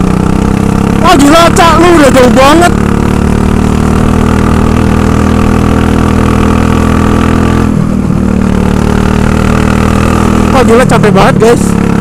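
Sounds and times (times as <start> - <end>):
go-kart engine running: 0.0 - 12.0.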